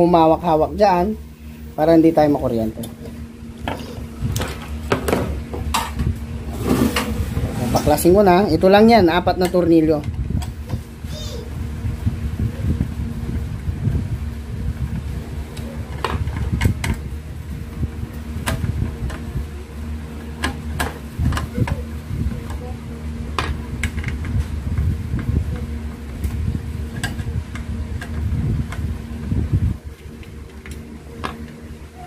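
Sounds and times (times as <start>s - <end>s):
low hum and rumble: 0.0s - 32.0s.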